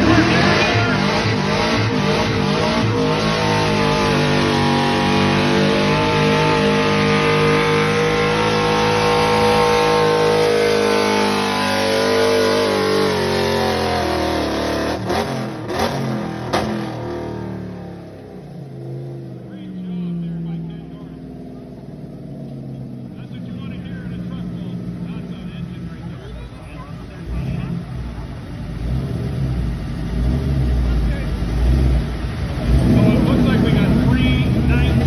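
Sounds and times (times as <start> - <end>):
engine at high revs: 0.0 - 35.0.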